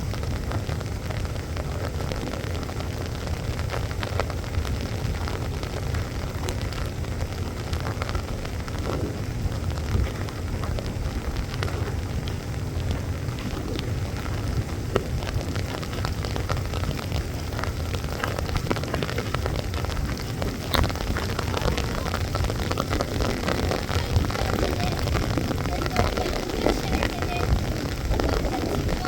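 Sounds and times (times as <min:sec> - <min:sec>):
heavy rain: 0:00.0 - 0:29.0
low rumble: 0:00.0 - 0:29.0
raindrops ticking: 0:00.0 - 0:29.0.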